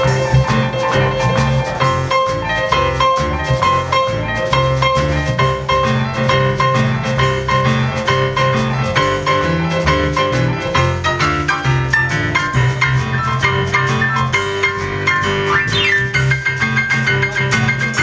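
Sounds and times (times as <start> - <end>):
drums: 0.0 - 18.0
stage piano repeated notes: 0.0 - 18.0
upright double bass: 0.0 - 18.0.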